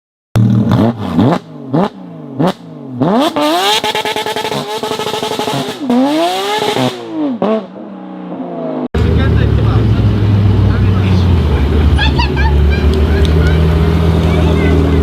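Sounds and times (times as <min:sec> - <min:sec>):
sports car engine revving: 0:00.4 - 0:15.0.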